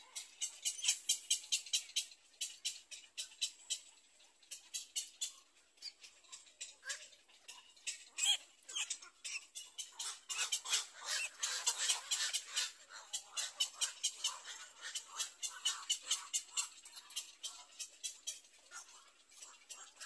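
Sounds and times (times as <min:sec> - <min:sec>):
heron chicks clicking calls: 0:00.1 - 0:20.0.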